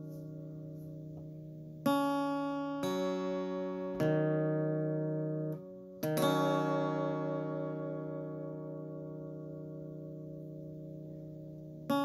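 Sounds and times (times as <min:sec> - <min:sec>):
slow plucked-string music: 0:00.0 - 0:12.0.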